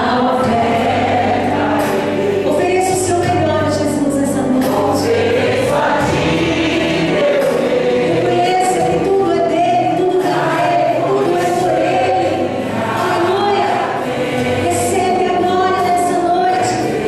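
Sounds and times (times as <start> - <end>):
church choir singing a hymn: 0.0 - 17.0
instrumental accompaniment: 0.0 - 17.0.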